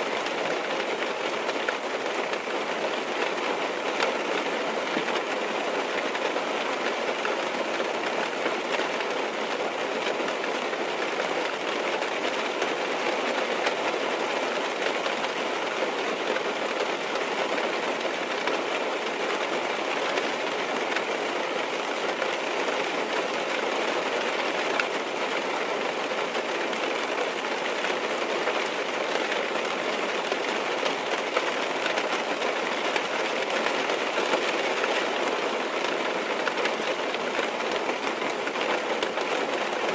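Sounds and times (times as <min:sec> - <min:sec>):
rain on car roof: 0:00.0 - 0:39.9.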